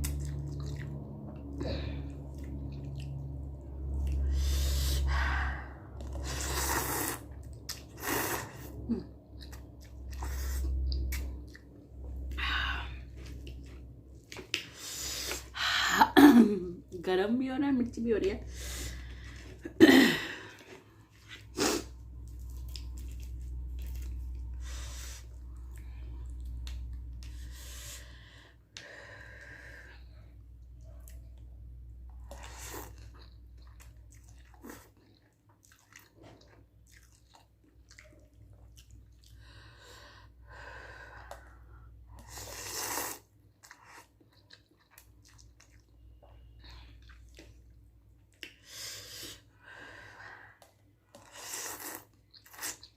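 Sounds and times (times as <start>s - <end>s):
person chewing noodles: 0.0s - 5.1s, 5.8s - 15.6s, 20.4s - 28.1s, 30.6s - 39.8s, 41.0s - 49.5s, 50.6s - 52.9s
low steady hum: 0.0s - 52.9s.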